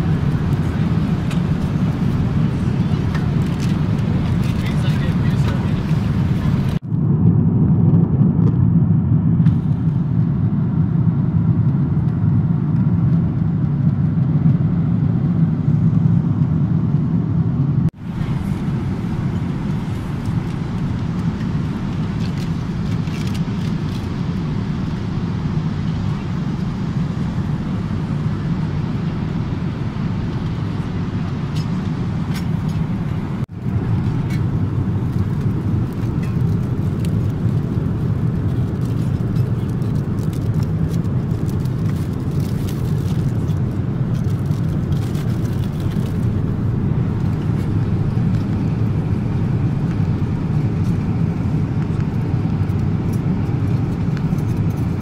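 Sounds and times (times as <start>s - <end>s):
airliner cabin drone: 0.0s - 55.0s.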